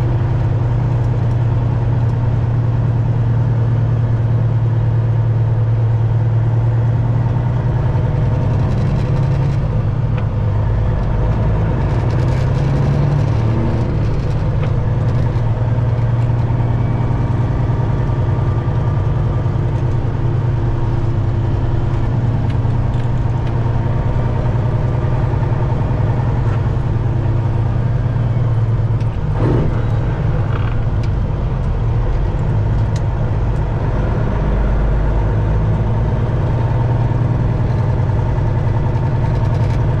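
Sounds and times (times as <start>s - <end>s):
diesel truck engine droning: 0.0s - 40.0s.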